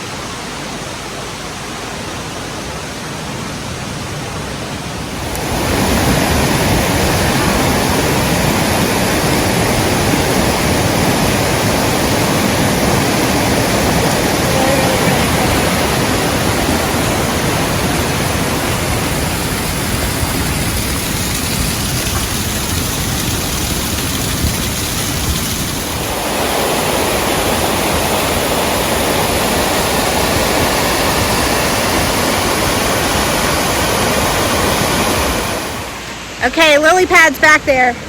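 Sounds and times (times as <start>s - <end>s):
stream rushing over cascades: 0.0s - 38.0s.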